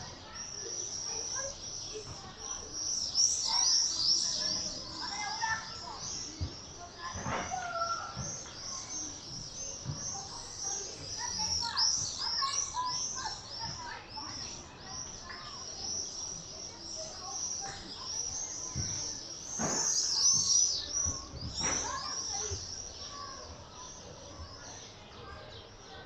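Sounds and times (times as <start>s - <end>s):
swifts screaming: 0.0s - 25.4s.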